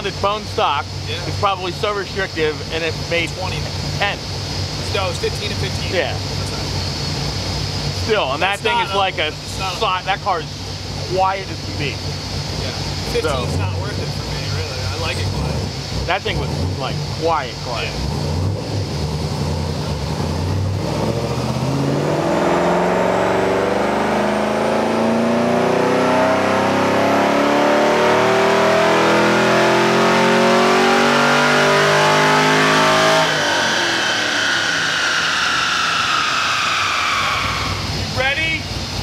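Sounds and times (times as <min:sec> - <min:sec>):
car engine revving at full throttle: 0:00.0 - 0:39.0.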